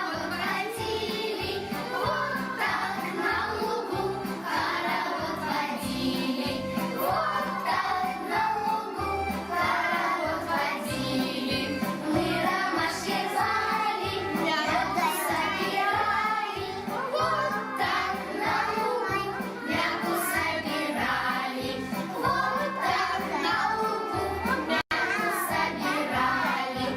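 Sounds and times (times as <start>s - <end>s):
backing track with steady beat: 0.0s - 24.8s
children singing: 0.0s - 26.9s.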